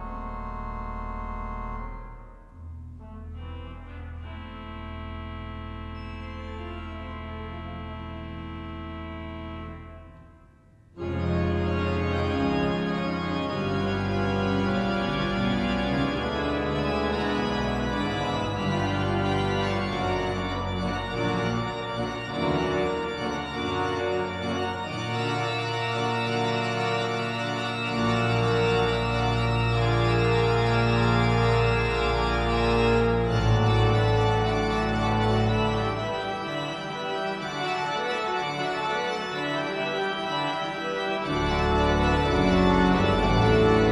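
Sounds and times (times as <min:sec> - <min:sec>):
pipe organ playing: 0:00.0 - 0:43.9.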